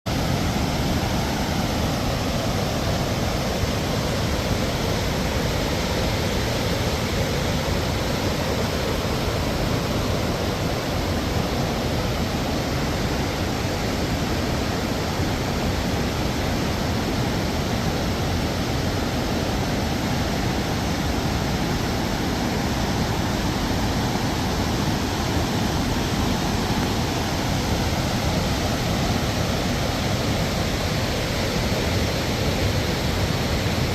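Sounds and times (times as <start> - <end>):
river rushing through rapids: 0.1 - 33.9.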